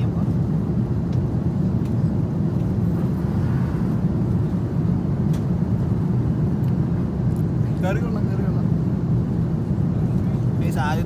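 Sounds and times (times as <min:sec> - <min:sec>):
airliner cabin drone in flight: 0:00.0 - 0:11.0.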